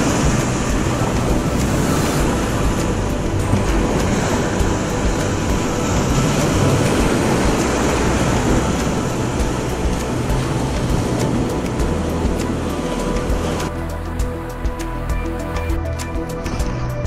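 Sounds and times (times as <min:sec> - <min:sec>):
breaking surf: 0:00.0 - 0:14.9
wind buffeting microphone: 0:00.0 - 0:15.8.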